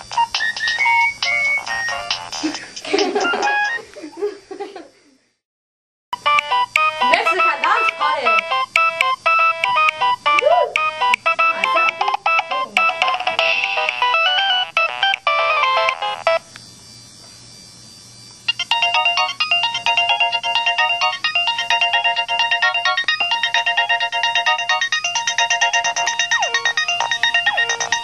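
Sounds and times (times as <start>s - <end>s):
electronic ringtone melody: 0.0s - 3.8s, 6.2s - 16.5s, 18.5s - 28.0s
repeating beeping ringtone: 0.0s - 3.8s, 6.2s - 16.5s, 18.5s - 28.0s.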